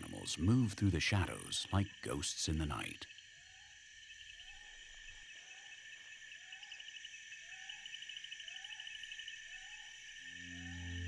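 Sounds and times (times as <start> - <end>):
insects buzzing with pulsing trill: 0.0 - 11.0.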